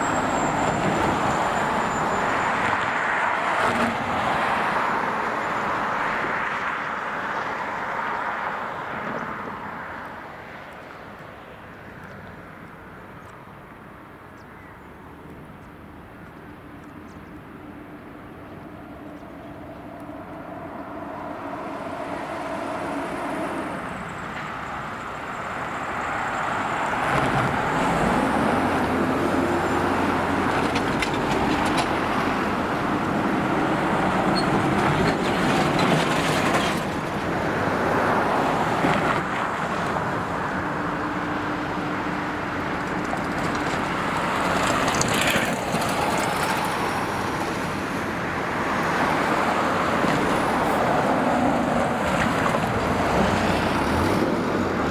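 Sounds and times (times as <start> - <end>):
cars passing on road: 0.0 - 54.9.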